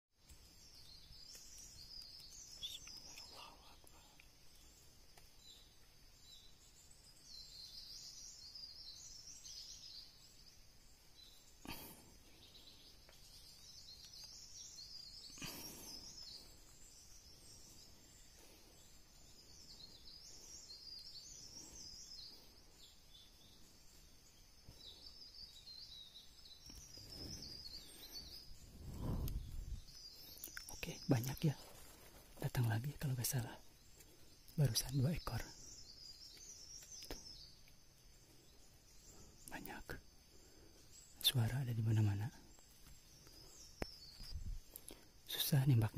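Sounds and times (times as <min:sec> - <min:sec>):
small birds chirping: 0:00.1 - 0:45.9.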